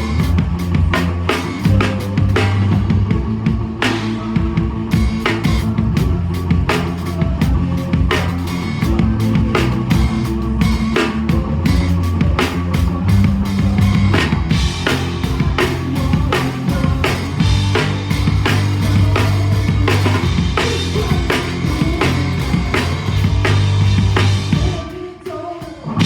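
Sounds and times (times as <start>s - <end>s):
drum kit beat: 0.0s - 25.7s
rock band playing live: 0.0s - 26.0s.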